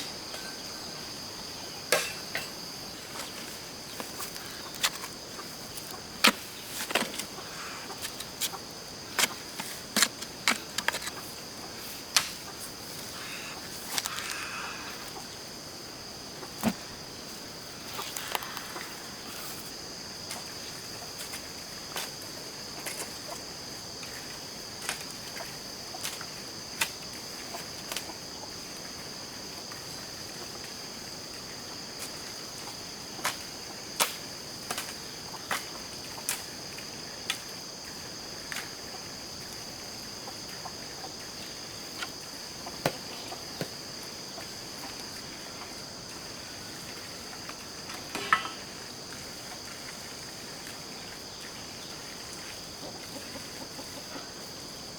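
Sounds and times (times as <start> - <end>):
insect chorus: 0.0 - 54.9.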